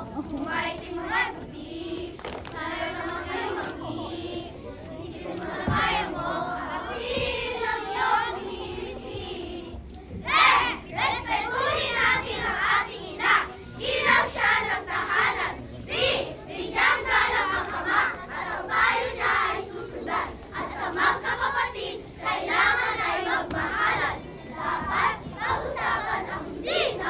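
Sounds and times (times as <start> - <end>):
children shouting and singing: 2.7 - 27.0.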